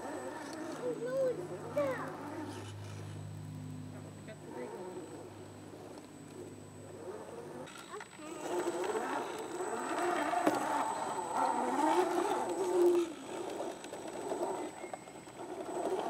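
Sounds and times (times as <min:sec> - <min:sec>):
rc truck electric motor whining: 0:00.0 - 0:16.0.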